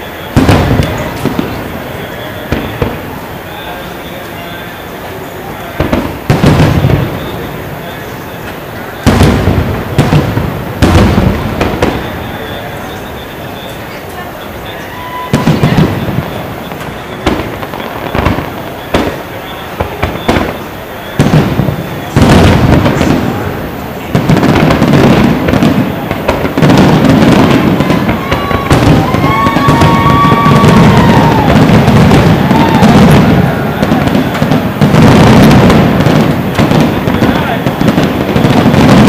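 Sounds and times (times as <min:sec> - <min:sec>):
firework shells bursting: 0:00.0 - 0:39.0
whistling firework: 0:00.0 - 0:39.0.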